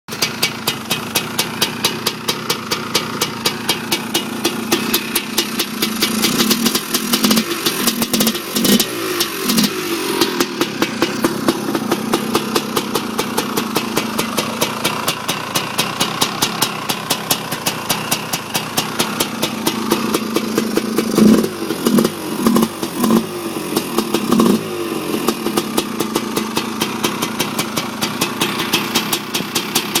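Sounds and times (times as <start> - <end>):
engine throttle blips: 0.1 - 30.0
two-stroke engine idling: 0.1 - 30.0.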